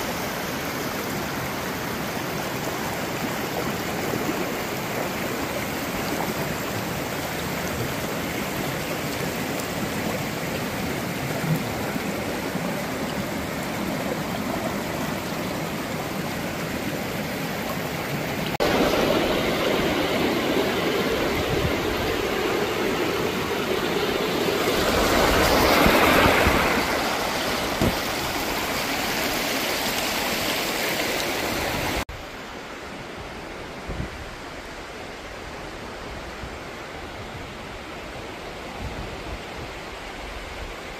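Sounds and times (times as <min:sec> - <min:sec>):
creek water babbling over rocks: 0:00.0 - 0:33.2.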